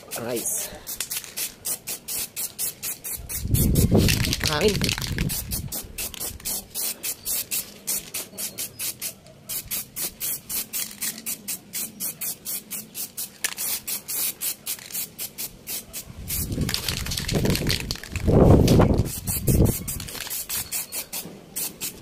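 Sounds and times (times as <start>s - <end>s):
aerosol spray can hissing bursts: 0.0s - 17.1s, 18.6s - 22.0s.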